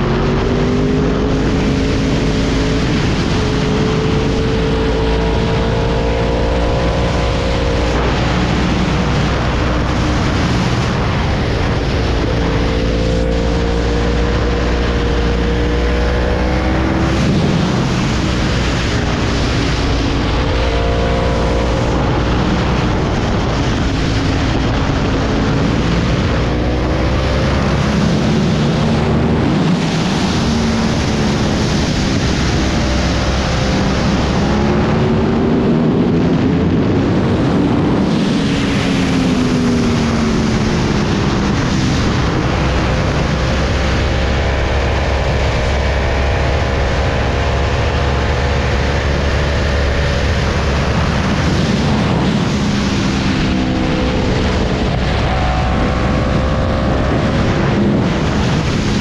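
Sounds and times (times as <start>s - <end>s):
motorcycle engine revving: 0.0s - 59.0s
wind noise on microphone: 0.0s - 59.0s.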